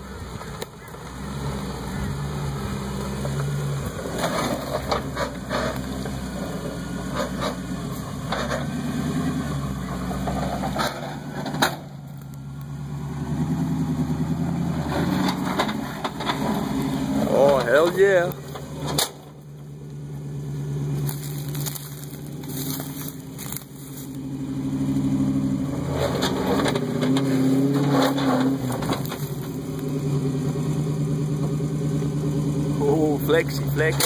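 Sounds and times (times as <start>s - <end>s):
truck engine at low revs: 0.0s - 34.0s.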